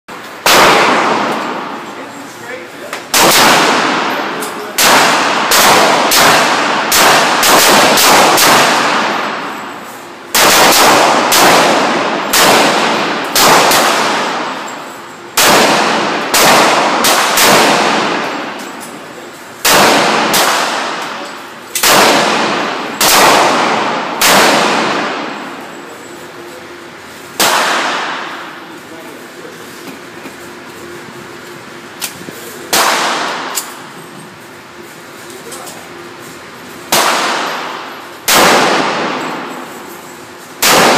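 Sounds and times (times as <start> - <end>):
pistol shots echoing indoors: 0.2 - 2.0, 2.9 - 28.6, 32.7 - 34.0, 36.7 - 40.9.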